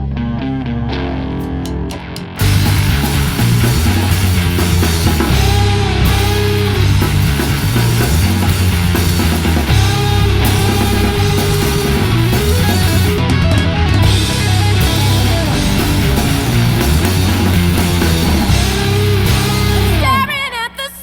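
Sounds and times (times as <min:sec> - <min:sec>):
bass guitar: 0:00.0 - 0:20.4
distorted electric guitar: 0:00.0 - 0:20.7
drum kit playing: 0:01.4 - 0:20.4.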